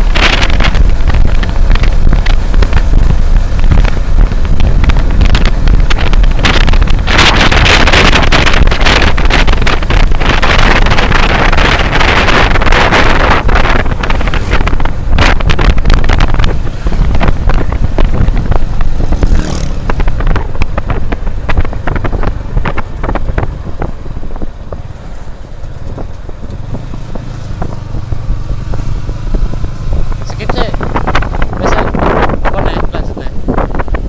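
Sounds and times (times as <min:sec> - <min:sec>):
motorcycle engine rumble: 0:00.0 - 0:34.0
wind buffeting microphone: 0:00.0 - 0:34.0.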